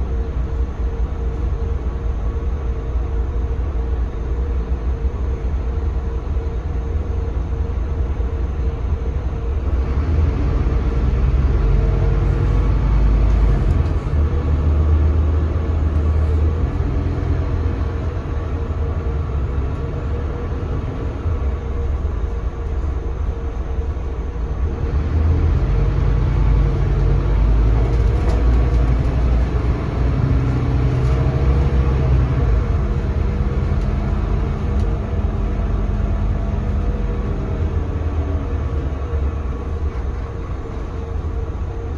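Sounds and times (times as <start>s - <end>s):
diesel bus engine rumble: 0.0s - 41.9s
road noise: 0.0s - 41.9s.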